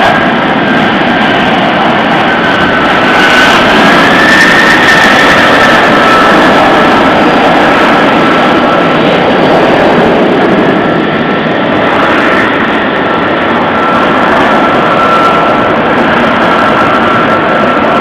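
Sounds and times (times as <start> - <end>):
jet engine rushing with whine: 0.0 - 18.0.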